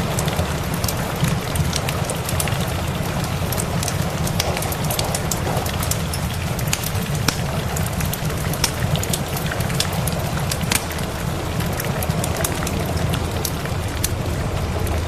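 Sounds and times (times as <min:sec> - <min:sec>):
rain hissing: 0:00.0 - 0:15.0
wood fire crackling: 0:00.0 - 0:15.0.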